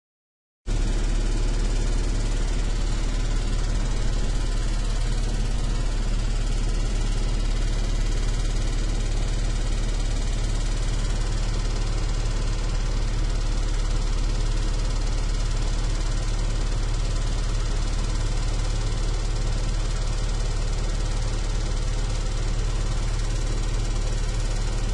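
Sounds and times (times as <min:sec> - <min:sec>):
deep motor hum: 0:00.7 - 0:24.9.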